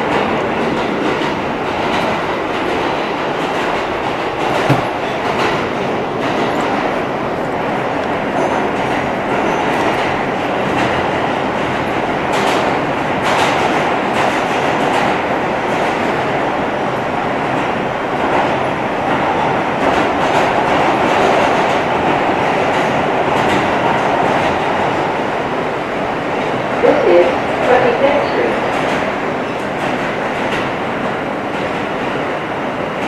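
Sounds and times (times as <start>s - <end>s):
subway wheels rumbling on track: 0.0s - 33.0s.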